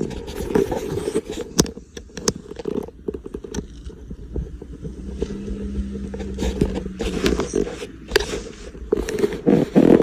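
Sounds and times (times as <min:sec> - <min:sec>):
steady hum: 0:00.4 - 0:10.0
car engine running: 0:01.7 - 0:10.0.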